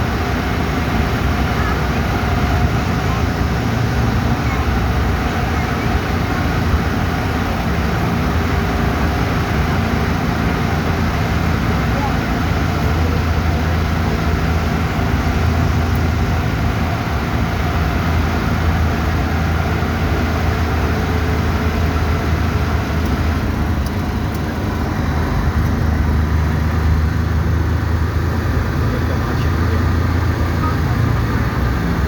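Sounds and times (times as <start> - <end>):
moving car rumble: 0.0 - 32.0.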